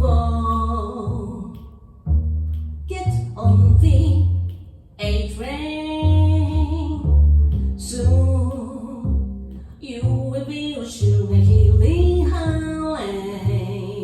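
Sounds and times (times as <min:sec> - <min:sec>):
woman singing jazz: 0:00.0 - 0:01.8, 0:02.9 - 0:14.0
plucked double bass: 0:00.0 - 0:14.0.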